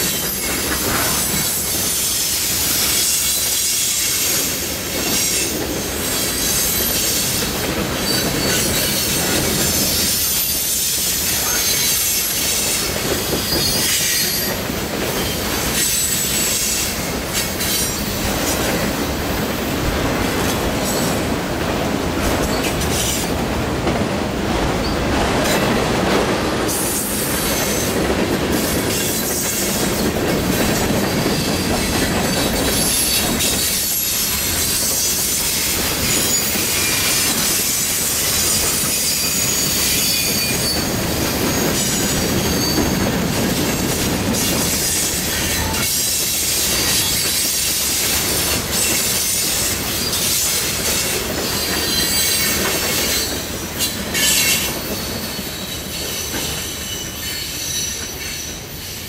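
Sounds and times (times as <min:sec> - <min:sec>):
high squealing of train wheels: 0:00.0 - 0:23.4, 0:24.6 - 0:59.0
freight train rolling by: 0:00.0 - 0:59.0.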